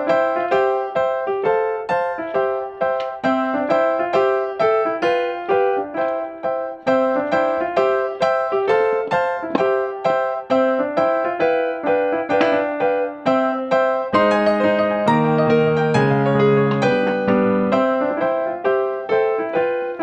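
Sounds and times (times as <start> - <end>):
gentle keyboard melody: 0.0 - 20.0.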